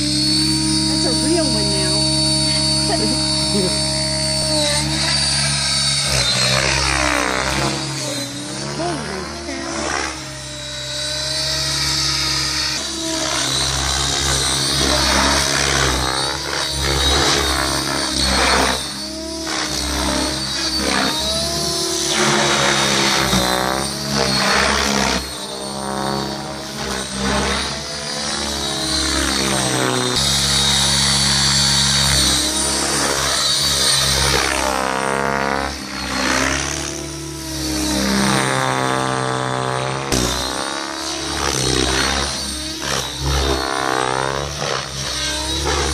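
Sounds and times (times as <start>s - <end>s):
helicopter motor whine: 0.0s - 45.9s
rotor whoosh: 0.0s - 45.9s.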